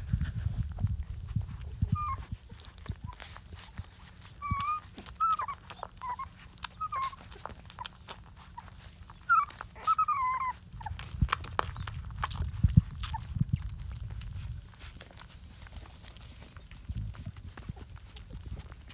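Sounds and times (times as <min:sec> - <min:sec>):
low rumble of movement: 0:00.0 - 0:18.9
puppies squeaking and whimpering: 0:00.2 - 0:18.9.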